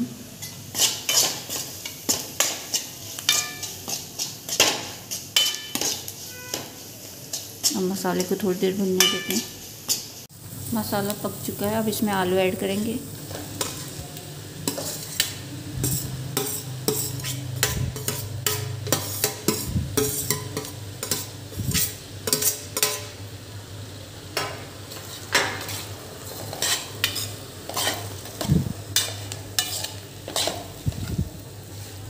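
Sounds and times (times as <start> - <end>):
light sizzle: 0.0 - 32.0
spatula scraping a pan: 0.4 - 10.2, 13.2 - 14.0, 14.6 - 23.2, 24.4 - 32.0.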